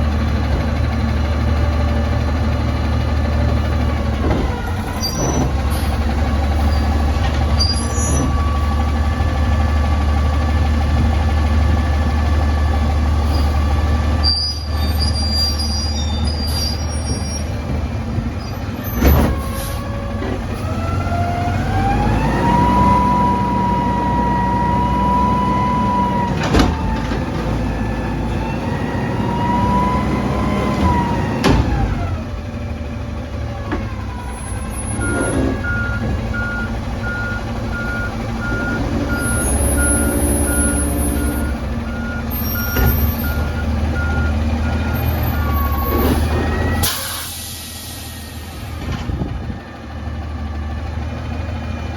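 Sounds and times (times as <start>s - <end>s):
garbage truck engine revving: 0.0s - 51.9s.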